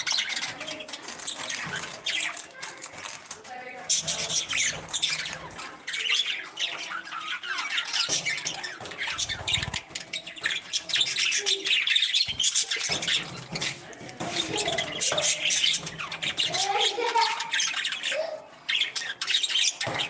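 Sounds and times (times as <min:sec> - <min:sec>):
parrots chirping and squawking: 0:00.0 - 0:20.0.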